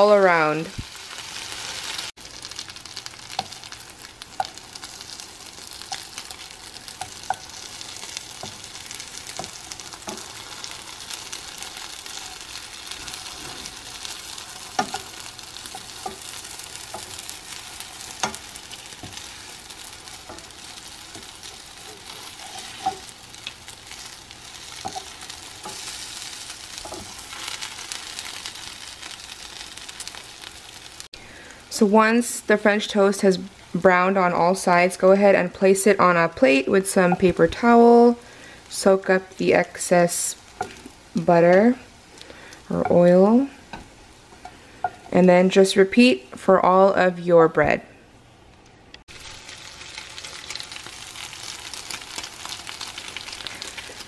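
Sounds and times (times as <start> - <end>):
bread frying in butter: 0.0 - 35.8, 36.4 - 45.2, 49.0 - 54.0.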